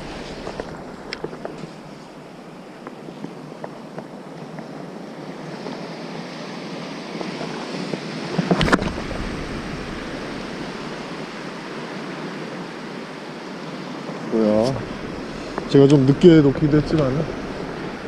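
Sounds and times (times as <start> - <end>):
surf washing onto beach: 0.0 - 4.2, 5.1 - 18.0
wind buffeting microphone: 0.0 - 18.0.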